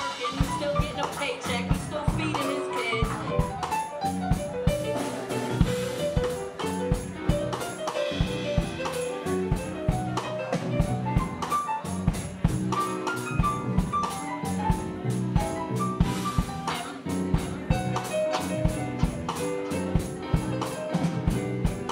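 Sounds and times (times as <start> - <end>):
drums and percussion: 0.0 - 21.9
jazz piano runs: 0.0 - 21.9.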